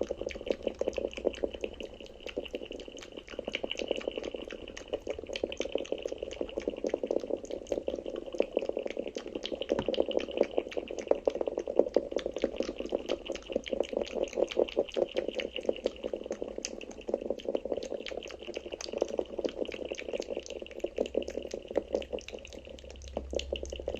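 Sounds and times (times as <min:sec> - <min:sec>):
wet mouth smacks and clicks: 0:00.0 - 0:23.9.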